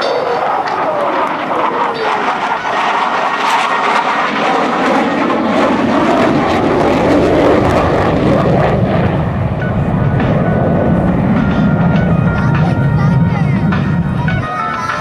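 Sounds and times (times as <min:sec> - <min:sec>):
propeller airplane engine: 0:00.0 - 0:15.0.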